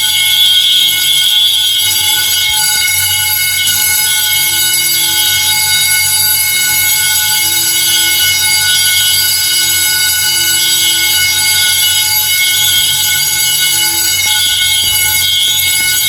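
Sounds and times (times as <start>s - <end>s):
fire alarm horn buzzing: 0.0s - 16.0s
second alarm tone: 0.0s - 16.0s.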